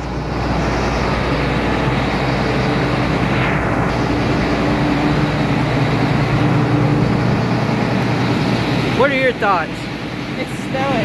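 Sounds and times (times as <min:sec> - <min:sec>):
combine engine droning: 0:00.0 - 0:11.0.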